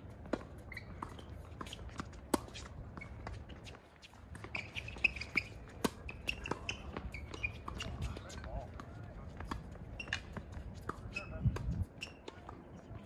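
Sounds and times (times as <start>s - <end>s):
shoes squeaking on court: 0.1s - 13.0s
tennis ball bouncing: 0.3s - 12.6s.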